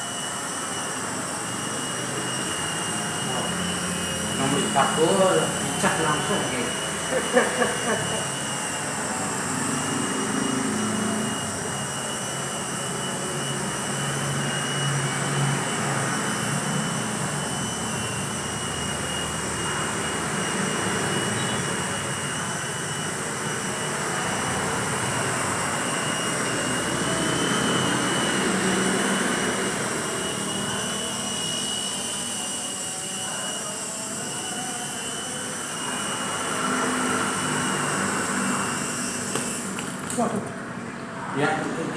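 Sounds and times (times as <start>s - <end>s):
toy helicopter motor whining: 0.0s - 40.2s.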